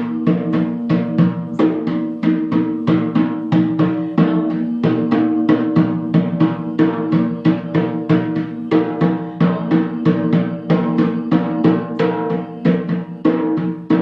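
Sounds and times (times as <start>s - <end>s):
steady drum strikes: 0.0s - 14.0s.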